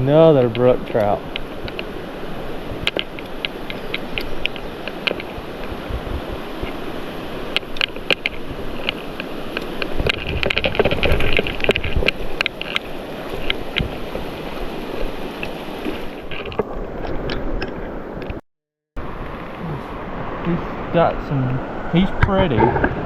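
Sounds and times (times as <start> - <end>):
stream water rushing: 0.0 - 18.4, 19.0 - 23.0.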